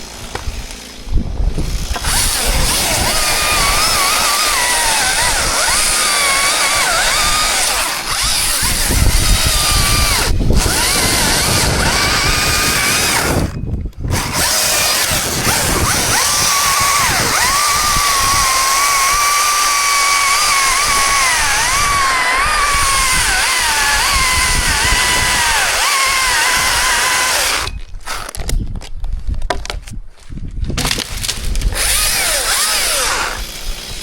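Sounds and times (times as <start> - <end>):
chainsaw running: 0.0 - 28.5, 30.9 - 34.0.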